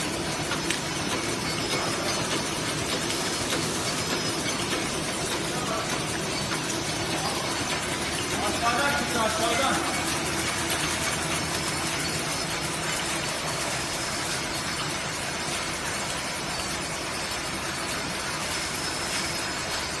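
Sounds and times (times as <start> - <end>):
packing machines clattering: 0.0 - 20.0.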